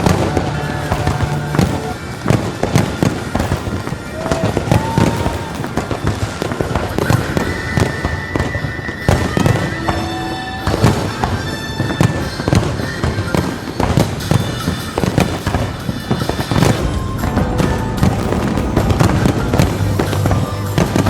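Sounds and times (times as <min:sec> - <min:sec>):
fireworks bursting and crackling: 0:00.0 - 0:21.0
music: 0:00.0 - 0:21.0.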